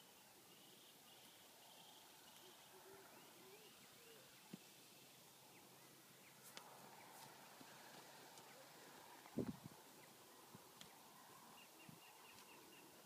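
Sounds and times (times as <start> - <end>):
faint chirps: 0.0 - 7.6, 8.3 - 13.0.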